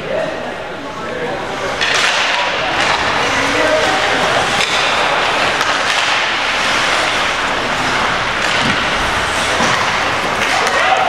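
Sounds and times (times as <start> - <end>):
arena noise: 0.0 - 11.0
skates scraping ice: 1.5 - 11.0.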